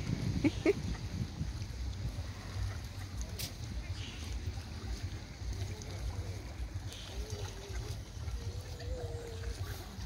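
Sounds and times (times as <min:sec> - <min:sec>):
wind buffeting microphone: 0:00.0 - 0:10.0
faint scattered sounds: 0:00.6 - 0:10.0.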